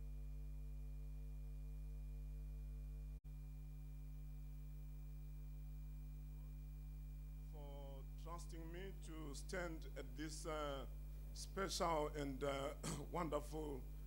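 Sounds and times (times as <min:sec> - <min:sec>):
faint buzz: 0:00.0 - 0:14.0
low electrical hum: 0:00.0 - 0:14.0.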